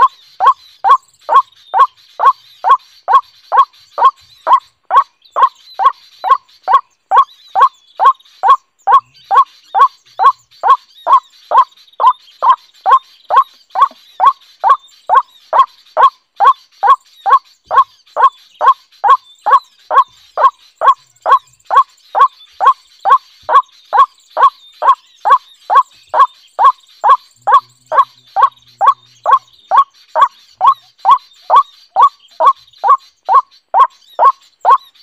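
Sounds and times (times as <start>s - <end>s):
waterhen calling: 0.0s - 35.0s.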